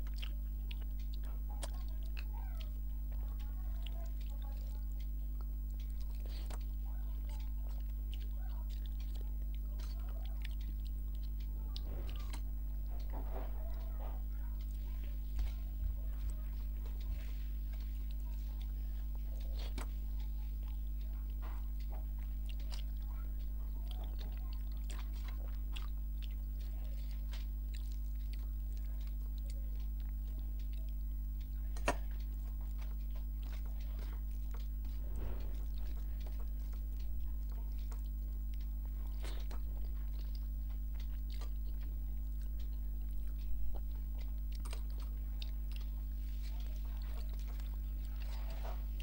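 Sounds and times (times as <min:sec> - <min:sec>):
chewing: 0:00.0 - 0:49.0
low hum: 0:00.0 - 0:49.0.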